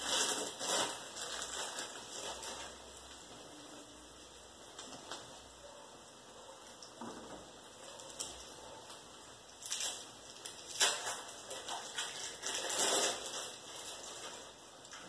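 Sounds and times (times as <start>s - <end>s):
ingredients rustling and crackling: 0.0s - 15.0s
omelette sizzling in a frying pan: 0.0s - 15.0s.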